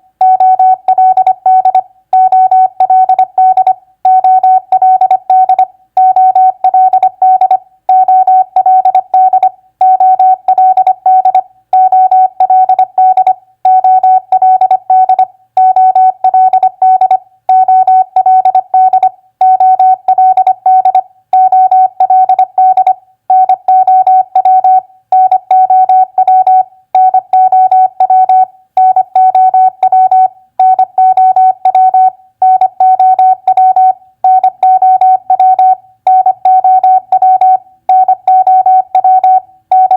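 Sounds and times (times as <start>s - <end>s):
morse code tone: 0.2s - 39.9s.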